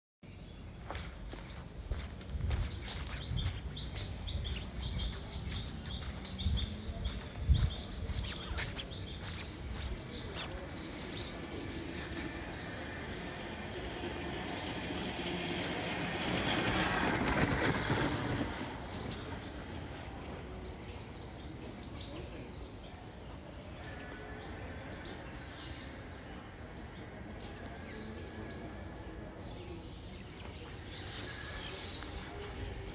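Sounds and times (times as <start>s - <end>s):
street background noise: 0.2s - 32.9s.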